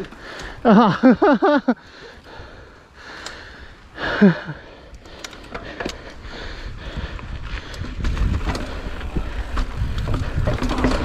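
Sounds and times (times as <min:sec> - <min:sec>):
faint riding noise: 0:00.0 - 0:11.0.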